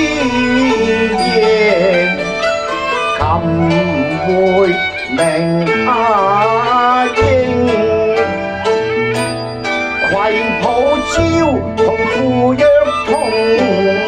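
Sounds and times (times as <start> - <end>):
bowed fiddle sliding melody: 0.0 - 14.0
plucked strings: 0.0 - 14.0.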